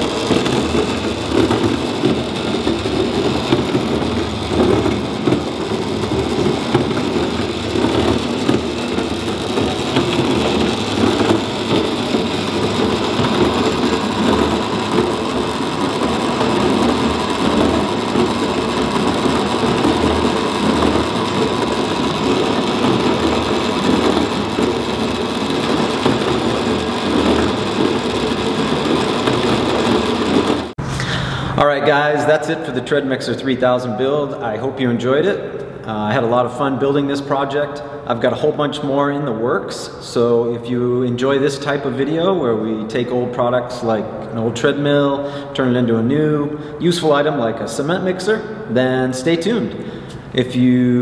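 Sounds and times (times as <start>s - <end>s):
cement mixer rattling: 0.0s - 50.8s.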